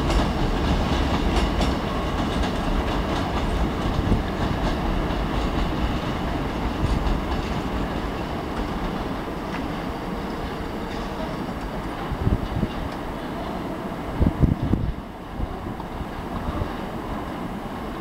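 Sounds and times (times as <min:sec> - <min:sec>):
train rumbling over points: 0:00.0 - 0:18.0.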